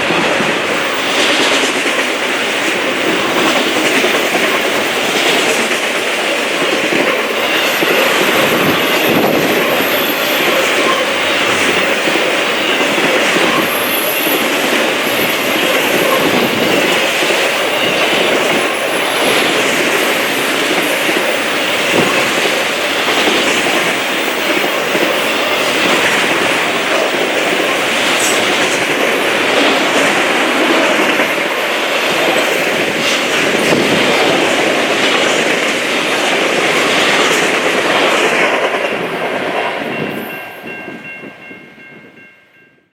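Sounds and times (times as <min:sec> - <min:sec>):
freight train wheels clattering: 0:00.0 - 0:42.0.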